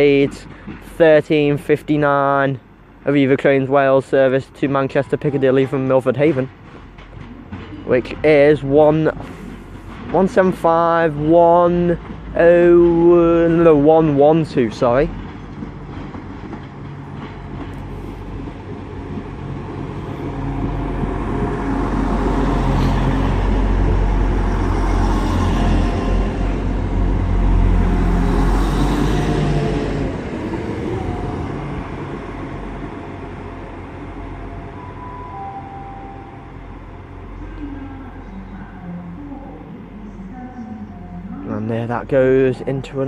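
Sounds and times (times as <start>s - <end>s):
diesel train arriving: 0.0s - 43.0s.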